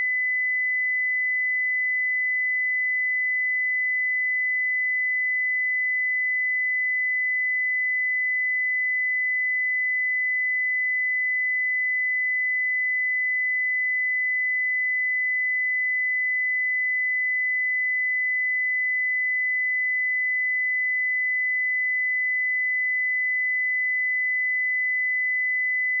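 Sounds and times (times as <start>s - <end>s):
high-pitched sine test tone: 0.0s - 26.0s.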